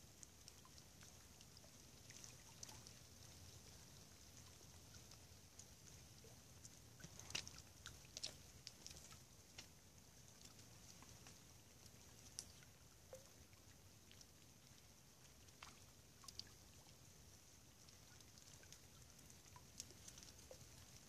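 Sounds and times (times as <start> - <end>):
quiet steady hiss: 0.0 - 21.0.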